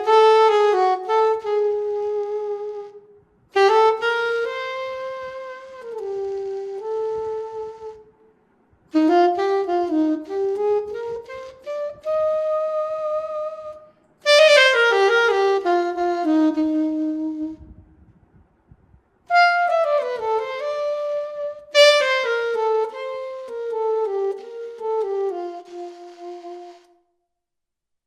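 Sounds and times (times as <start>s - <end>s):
saxophone melody: 0.0s - 8.2s, 8.9s - 18.0s, 19.3s - 27.1s.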